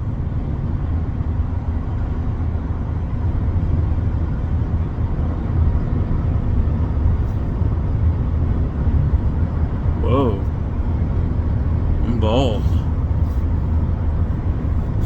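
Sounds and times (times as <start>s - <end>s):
car road rumble and engine: 0.0s - 12.0s, 12.9s - 15.0s.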